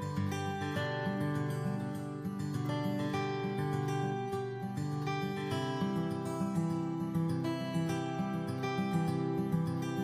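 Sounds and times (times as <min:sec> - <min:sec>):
acoustic guitar plucked notes: 0:00.0 - 0:10.0.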